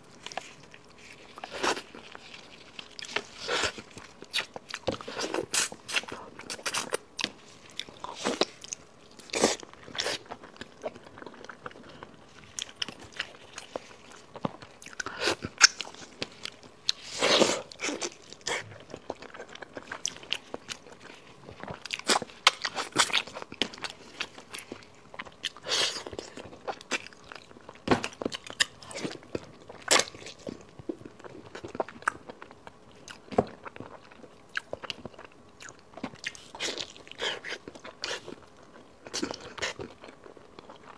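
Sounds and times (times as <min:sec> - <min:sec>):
close chewing and biting: 0:00.1 - 0:40.9.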